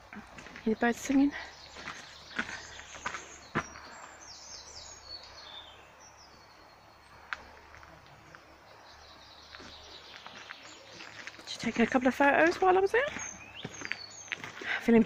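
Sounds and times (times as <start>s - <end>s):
wild birds singing: 0.0s - 15.0s.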